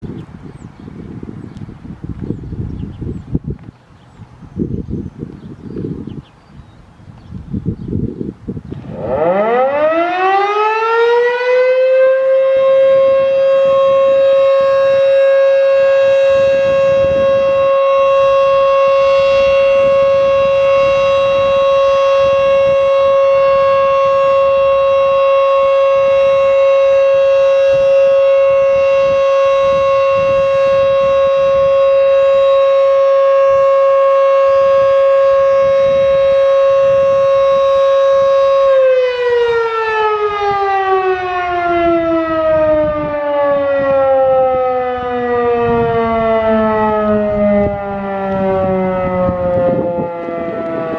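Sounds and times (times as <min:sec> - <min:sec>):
electromechanical siren steady tone: 0:07.6 - 0:50.9.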